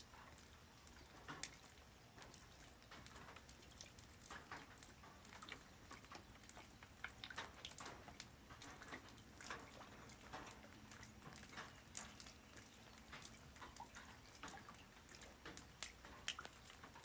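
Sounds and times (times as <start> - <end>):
light rain patter: 0.0 - 17.0.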